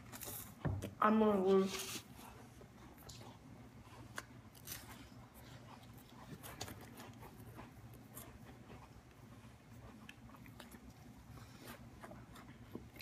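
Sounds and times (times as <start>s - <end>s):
people chewing crackers: 0.0s - 1.0s, 1.7s - 13.0s
low room hum: 0.0s - 13.0s.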